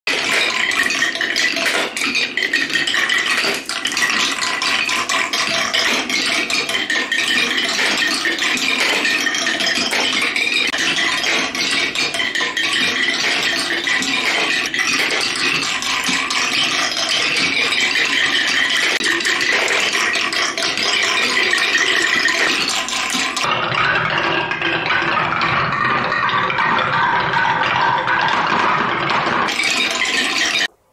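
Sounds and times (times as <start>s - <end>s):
marbles clattering down wooden ramps: 0.1s - 30.7s.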